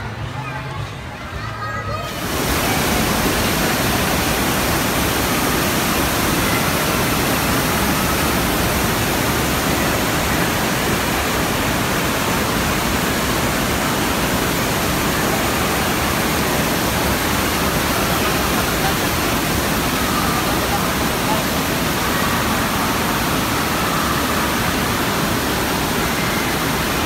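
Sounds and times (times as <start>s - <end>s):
water rushing into pool: 2.1s - 27.0s.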